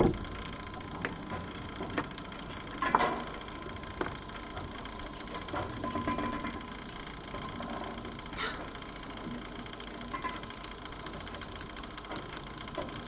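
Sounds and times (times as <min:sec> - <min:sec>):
low hum: 0:00.0 - 0:10.7
mechanical ticking: 0:00.0 - 0:13.0.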